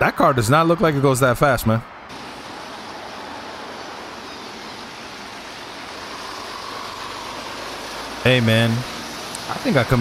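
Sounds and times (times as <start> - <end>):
road traffic hiss and rumble: 0.0 - 10.0.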